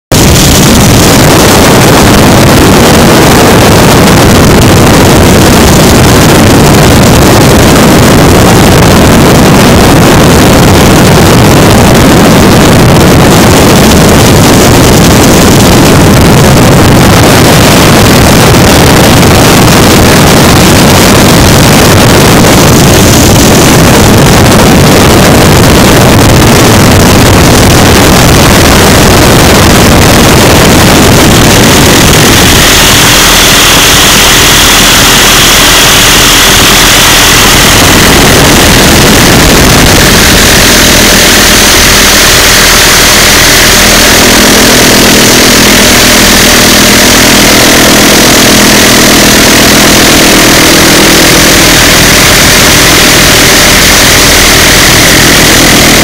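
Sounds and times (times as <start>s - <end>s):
helicopter engine and rotor din: 0.0s - 56.0s.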